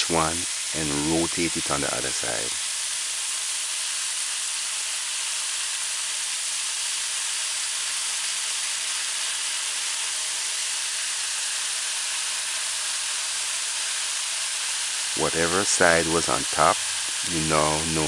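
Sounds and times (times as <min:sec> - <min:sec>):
chicken deep-frying in oil: 0:00.0 - 0:18.0.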